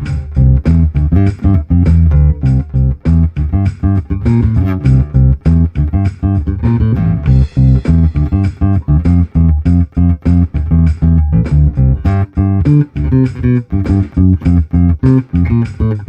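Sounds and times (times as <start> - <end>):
drum loop: 0.0 - 16.0
electric bass picked notes: 0.0 - 16.0.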